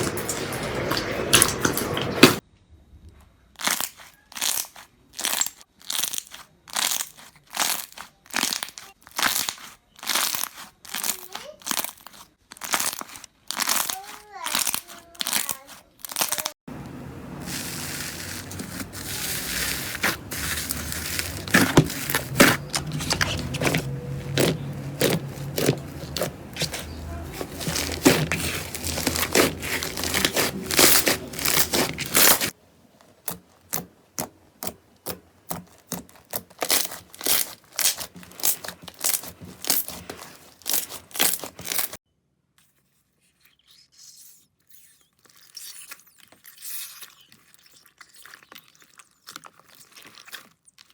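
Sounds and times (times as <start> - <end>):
slime crackling and popping: 3.6 - 16.6, 17.4 - 42.0, 44.7 - 50.9.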